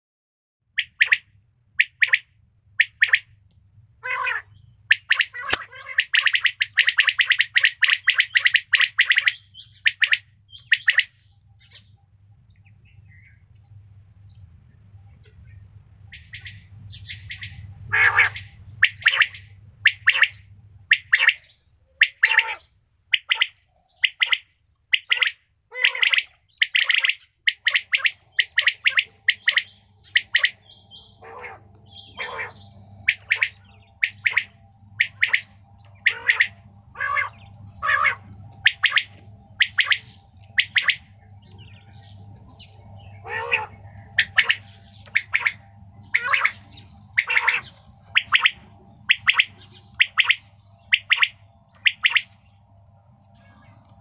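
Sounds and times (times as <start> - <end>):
steady low hum: 0.7 - 54.0
quail chirping: 0.8 - 3.4, 4.0 - 13.7, 14.3 - 54.0.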